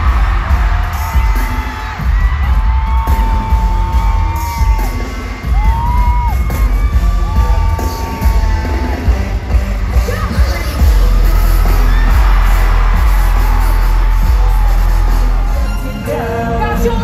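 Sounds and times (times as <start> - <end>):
fans yelling and whooping: 0.0 - 17.0
pop concert music over pa: 0.0 - 17.0.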